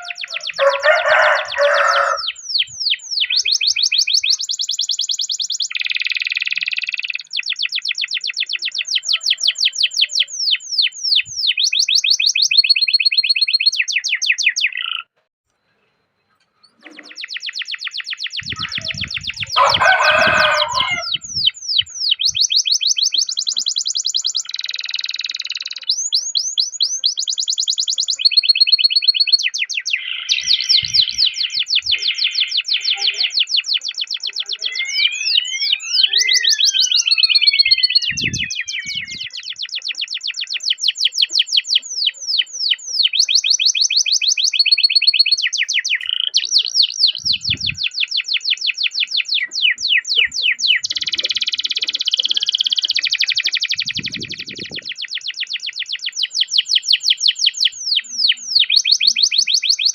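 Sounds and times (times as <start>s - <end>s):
canary singing trills: 0.0s - 15.2s, 16.3s - 59.9s.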